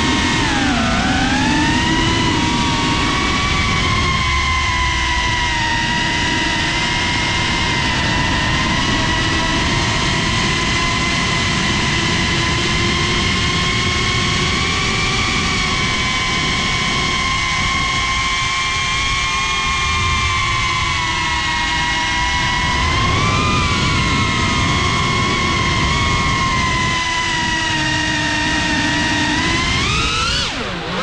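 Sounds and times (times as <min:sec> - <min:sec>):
drone motors whining: 0:00.0 - 0:31.0
propeller wash rushing: 0:00.0 - 0:31.0.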